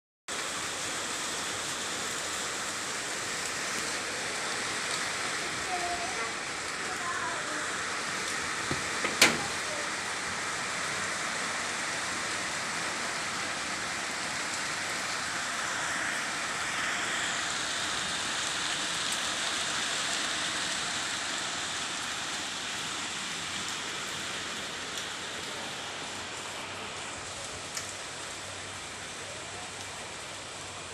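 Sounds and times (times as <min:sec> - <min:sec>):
rain pattering: 0:00.3 - 0:30.9.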